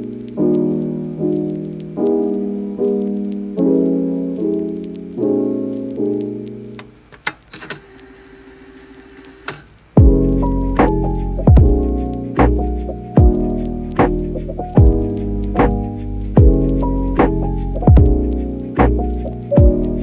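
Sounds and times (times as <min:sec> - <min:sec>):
soft piano chords: 0:00.0 - 0:07.1, 0:10.0 - 0:20.0.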